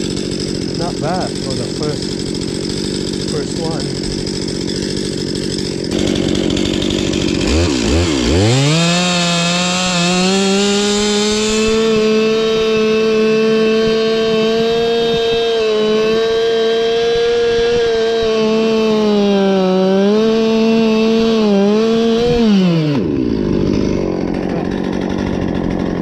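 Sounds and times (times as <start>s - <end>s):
chainsaw engine revving: 0.0s - 26.0s.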